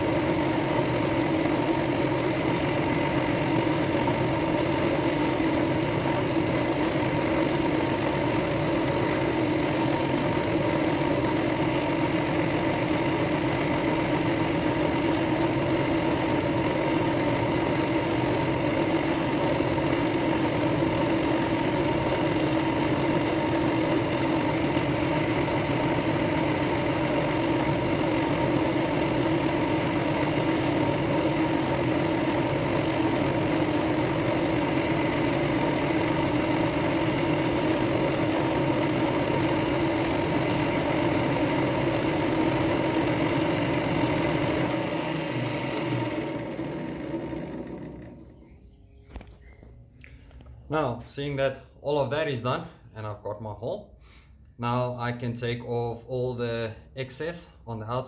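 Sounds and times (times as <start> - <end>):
drill press motor humming: 0.0 - 48.8.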